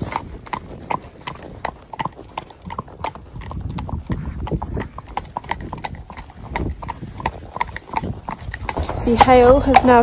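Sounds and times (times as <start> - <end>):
horse hooves clip-clopping on tarmac: 0.0 - 10.0.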